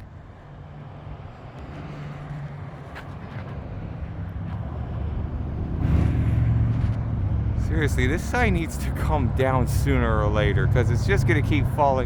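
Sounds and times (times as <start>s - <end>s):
distant engine rumble: 0.0s - 12.0s.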